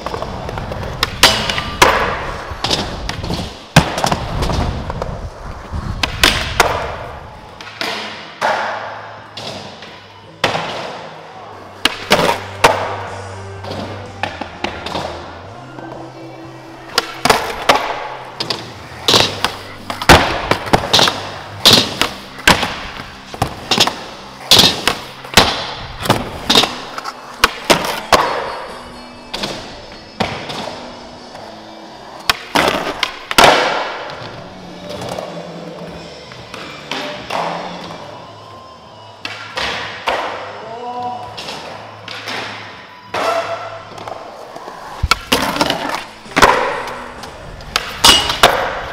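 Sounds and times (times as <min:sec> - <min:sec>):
skateboard wheels rolling on concrete: 0:00.0 - 0:08.4, 0:11.4 - 0:38.6, 0:42.7 - 0:48.9.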